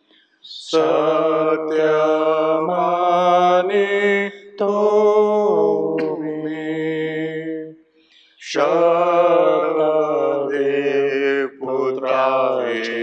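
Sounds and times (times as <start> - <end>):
person singing devotional hymn: 0.4 - 7.7, 8.4 - 13.0.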